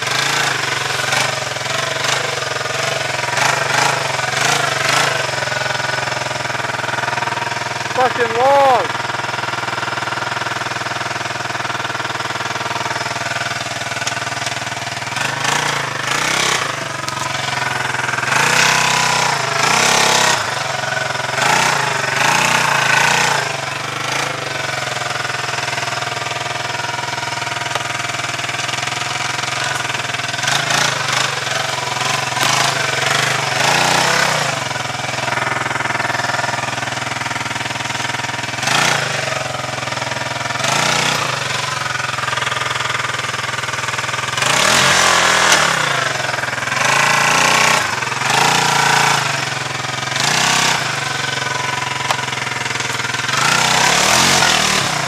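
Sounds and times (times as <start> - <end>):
quad engine idling and revving: 0.0 - 55.0.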